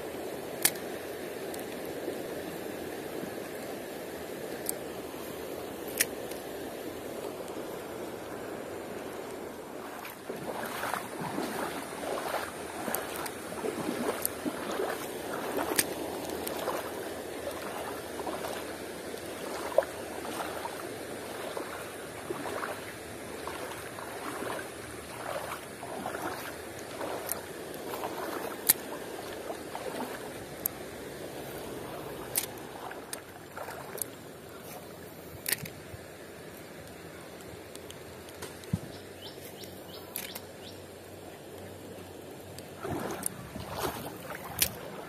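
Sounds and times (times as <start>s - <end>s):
water rushing over rocks: 0.0s - 35.1s, 42.5s - 45.0s.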